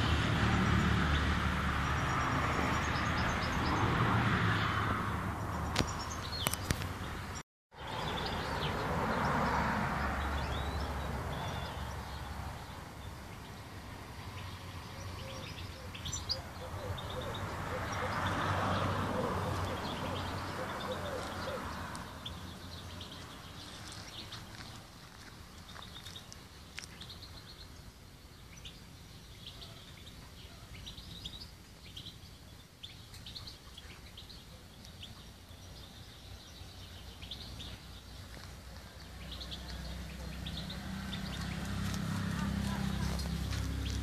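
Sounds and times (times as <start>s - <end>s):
low outdoor background noise: 0.0s - 44.0s
small birds chirping: 5.3s - 44.0s.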